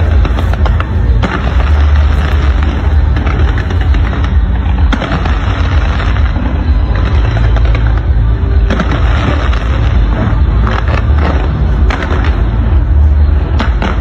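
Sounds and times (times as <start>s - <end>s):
fireworks booming and crackling: 0.0s - 14.0s
sharp fireworks bangs: 0.0s - 14.0s.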